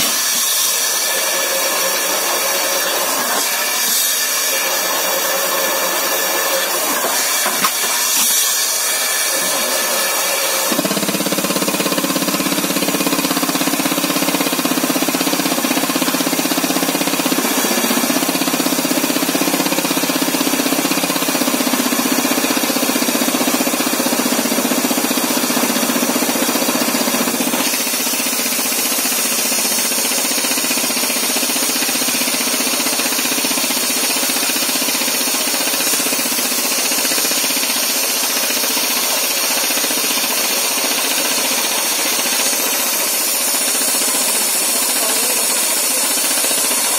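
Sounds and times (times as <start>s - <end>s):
rock drill hammering: 0.0s - 46.9s.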